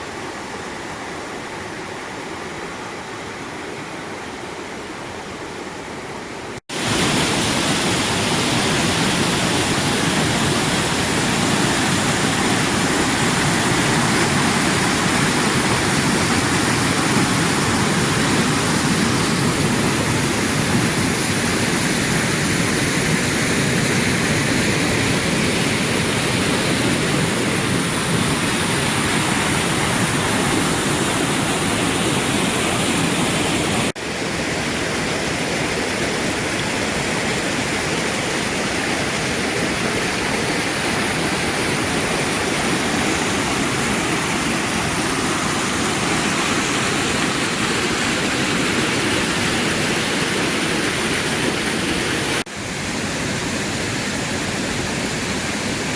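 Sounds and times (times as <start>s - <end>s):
waterfall roaring: 5.0s - 55.9s.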